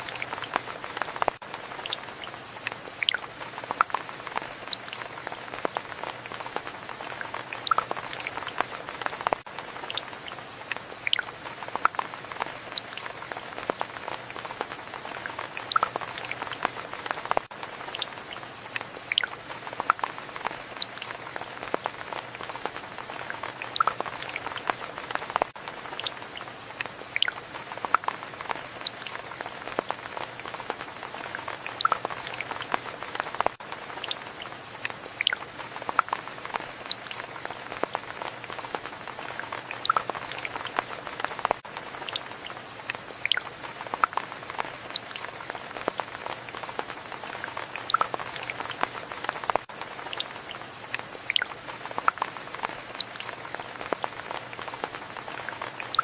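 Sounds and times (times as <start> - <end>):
raindrops tapping close: 0.0 - 56.0
steady rain: 0.0 - 56.0.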